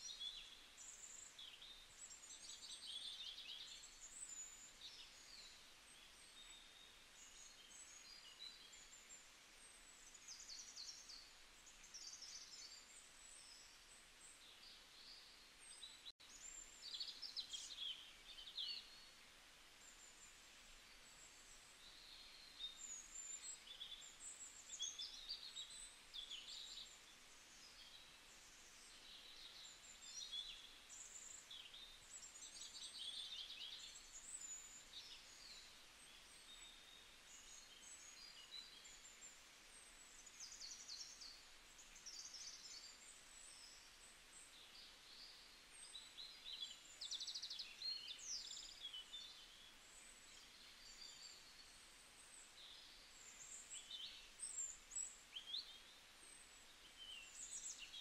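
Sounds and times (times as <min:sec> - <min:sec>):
small birds chirping: 0:00.0 - 0:58.0
soft steady hiss: 0:00.0 - 0:58.0.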